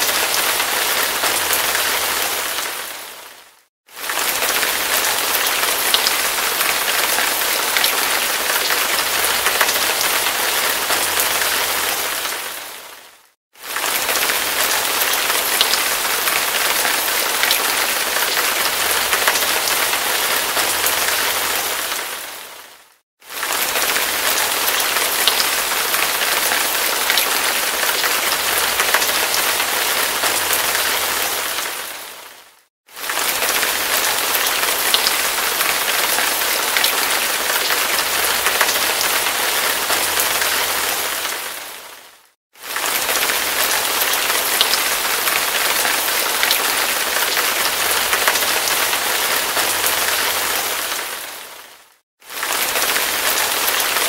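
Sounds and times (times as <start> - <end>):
hard rain pouring: 0.0 - 54.0.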